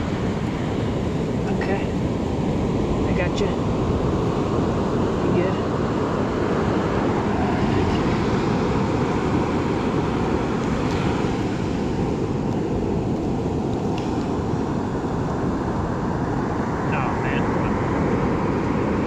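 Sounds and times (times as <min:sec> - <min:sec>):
surf rushing: 0:00.0 - 0:19.0
wind: 0:00.0 - 0:19.0.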